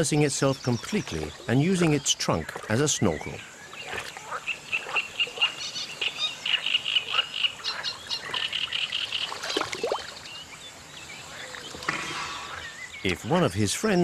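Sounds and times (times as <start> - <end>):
frogs chirping: 0.0 - 14.0.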